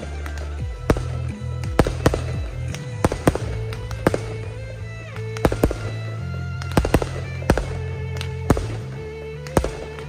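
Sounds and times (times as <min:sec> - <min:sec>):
fireworks bangs: 0:00.0 - 0:10.0
music with low notes: 0:00.0 - 0:10.0.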